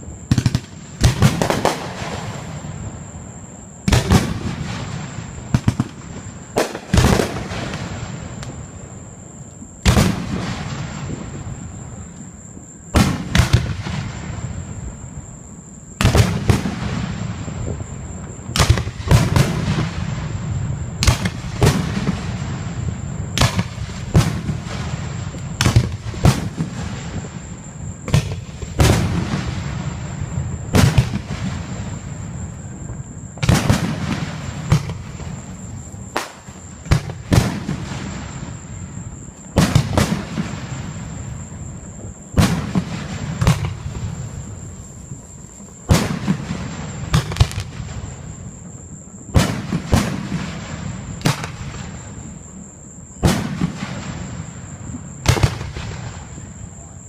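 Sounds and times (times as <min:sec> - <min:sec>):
fireworks loud bangs echoing: 0:00.0 - 0:03.2, 0:03.8 - 0:09.0, 0:09.8 - 0:12.1, 0:12.9 - 0:15.2, 0:16.0 - 0:48.6, 0:49.3 - 0:52.6, 0:53.2 - 0:57.0.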